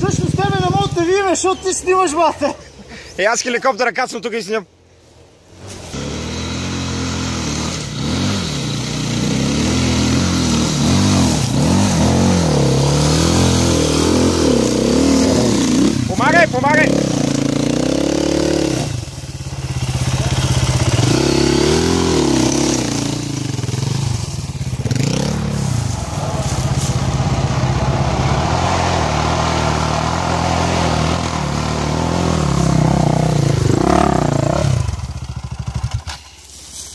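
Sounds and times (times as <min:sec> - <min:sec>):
dirt bike engine revving: 0:05.9 - 0:36.3.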